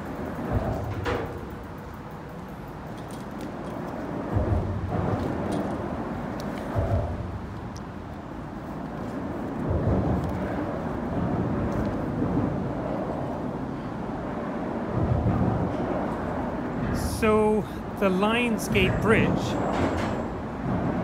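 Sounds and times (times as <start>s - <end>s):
traffic rumble on bridge: 0.0s - 21.0s.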